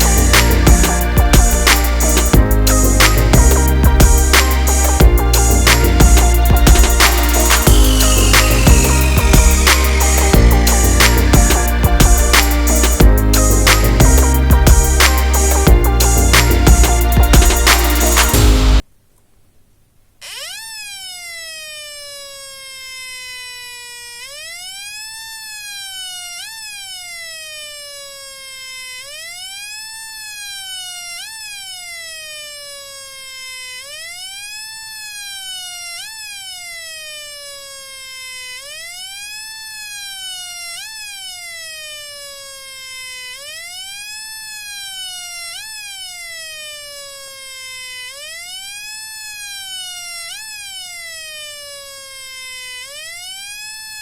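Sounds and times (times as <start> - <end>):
electronic siren wail from speaker: 0.0 - 18.4, 20.2 - 54.0.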